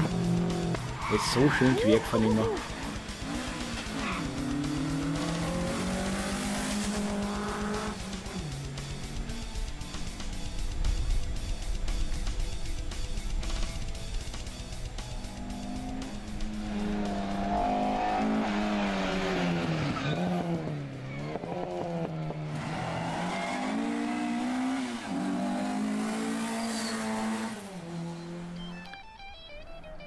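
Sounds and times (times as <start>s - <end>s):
rally car engine revving: 0.0s - 12.4s, 13.3s - 28.9s.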